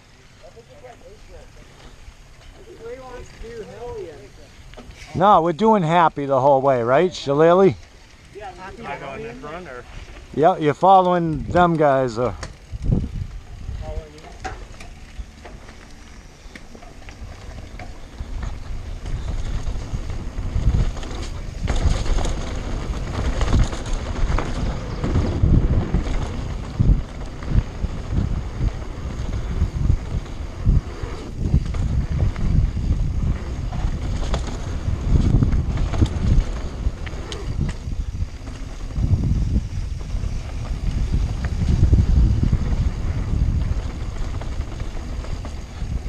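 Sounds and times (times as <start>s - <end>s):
bike rattling and knocking: 0.0s - 46.0s
bike tyres rumbling on dirt: 0.0s - 46.0s
wind buffeting microphone: 6.8s - 46.0s.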